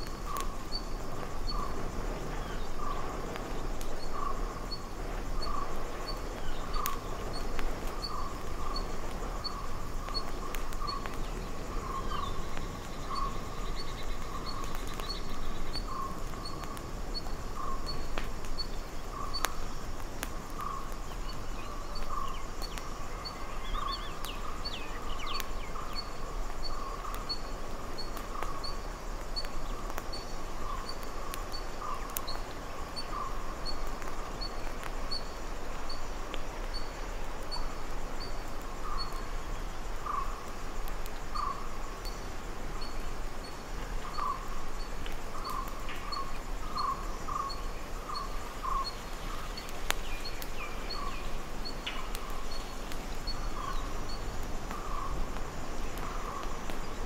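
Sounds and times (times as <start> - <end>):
chirps and clicks: 0.0 - 39.3, 40.0 - 57.0.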